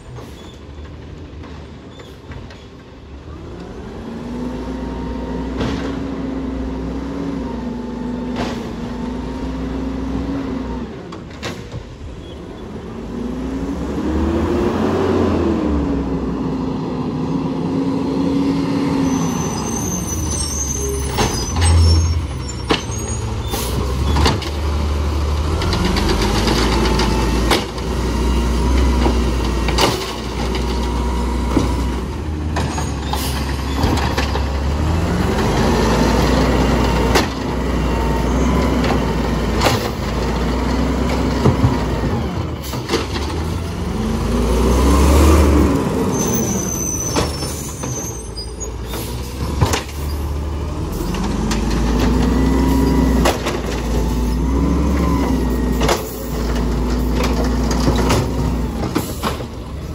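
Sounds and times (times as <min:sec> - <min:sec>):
diesel engine revving: 0:03.2 - 0:59.9.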